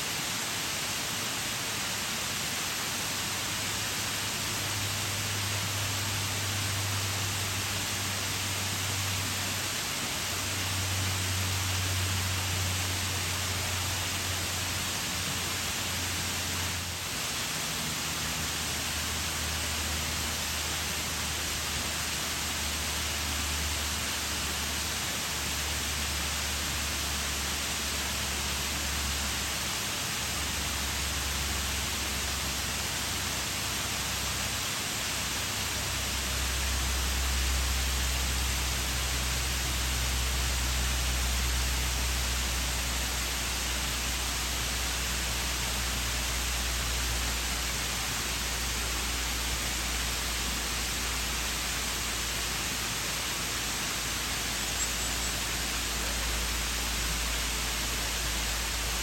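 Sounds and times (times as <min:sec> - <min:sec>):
waterfall rushing hiss: 0:00.0 - 0:59.0.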